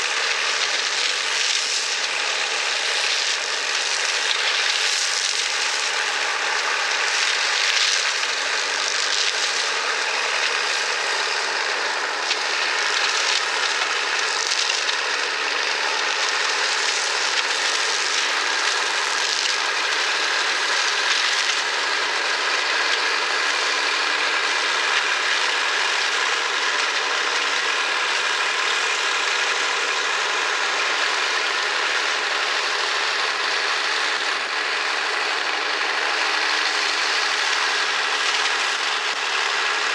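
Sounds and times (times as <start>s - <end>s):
hedge cutter chopping branches: 0.0s - 39.9s
tractor diesel engine droning: 0.0s - 39.9s.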